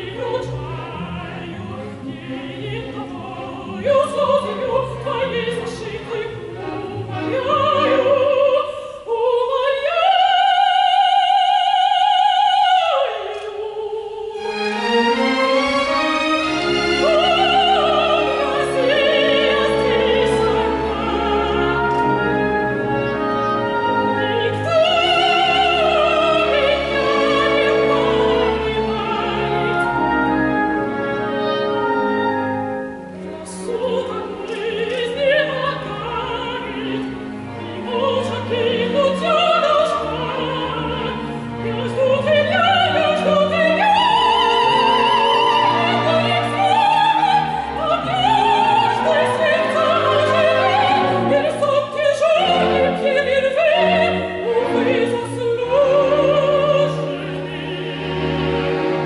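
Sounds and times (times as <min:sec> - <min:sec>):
orchestra playing: 0:00.0 - 0:09.9, 0:14.2 - 0:59.0
operatic soprano singing: 0:00.0 - 0:59.0.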